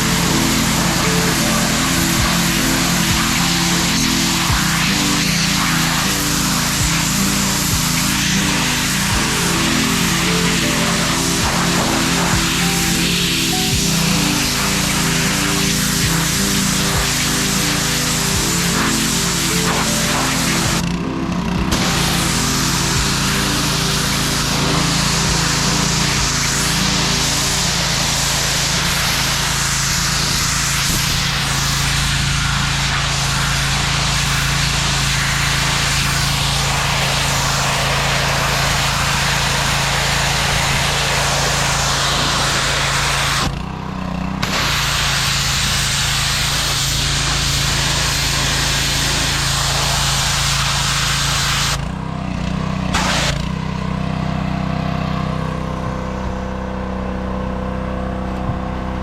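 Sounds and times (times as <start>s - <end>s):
loud hiss: 0.0s - 20.9s, 21.7s - 43.5s, 44.4s - 51.8s, 52.9s - 53.4s
machine hum: 0.0s - 59.0s.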